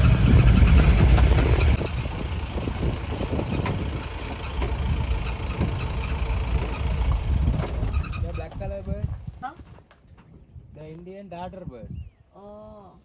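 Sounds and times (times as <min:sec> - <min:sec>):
vehicle engine and road rumble: 0:00.0 - 0:10.7.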